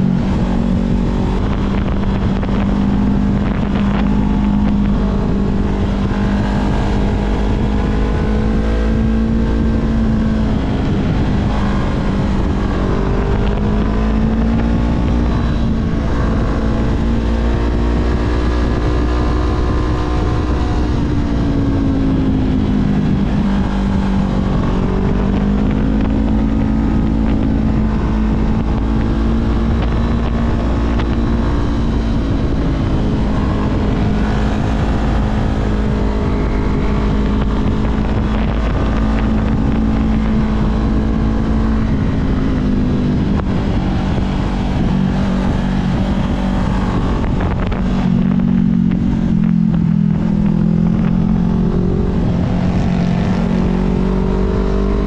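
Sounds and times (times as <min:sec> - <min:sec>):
motorcycle engine revving: 0:00.0 - 0:55.0
wind noise on microphone: 0:00.0 - 0:55.0.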